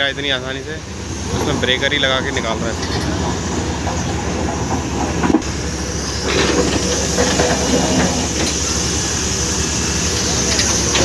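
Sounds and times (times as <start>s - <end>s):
diesel engine idling: 0.0s - 11.0s
diesel machinery rumbling: 0.0s - 11.0s.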